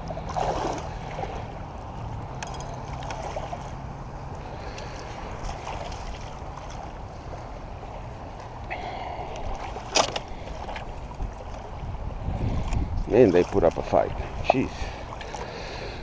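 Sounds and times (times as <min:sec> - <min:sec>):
water in shallows: 0:00.0 - 0:16.0
wind: 0:00.0 - 0:16.0.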